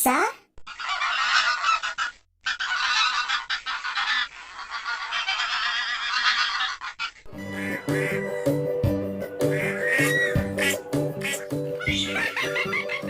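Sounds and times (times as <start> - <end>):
geese honking: 0.7 - 13.0.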